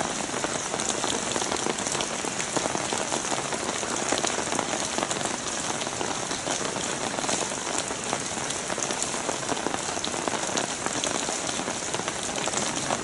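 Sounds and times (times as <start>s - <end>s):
light rain on wet asphalt: 0.0s - 13.0s.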